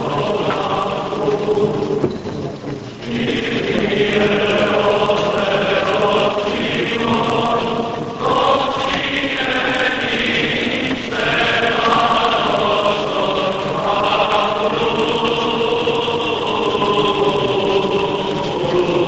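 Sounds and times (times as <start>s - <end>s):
choir chanting hymns: 0.0s - 19.0s.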